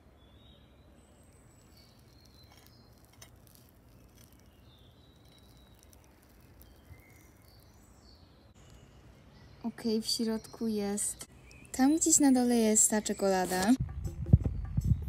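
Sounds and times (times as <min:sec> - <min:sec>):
distant birds chirping: 0:00.0 - 0:13.6.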